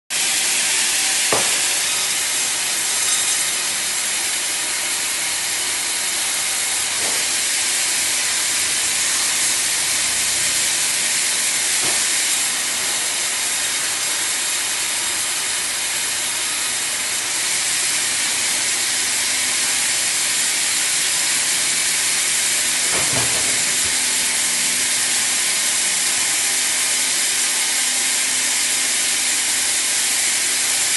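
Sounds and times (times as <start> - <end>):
sawmill blade cutting log: 0.1 - 30.9.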